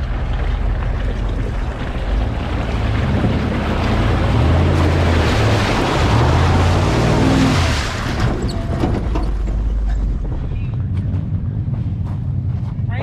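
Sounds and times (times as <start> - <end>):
off-road vehicle engine revving: 0.0 - 12.7.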